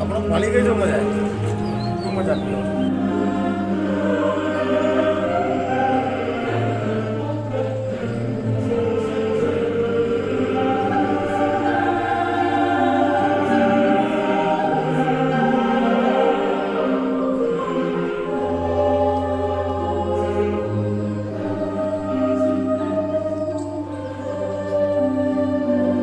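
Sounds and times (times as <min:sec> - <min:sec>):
slow sustained chords: 0:00.0 - 0:26.0.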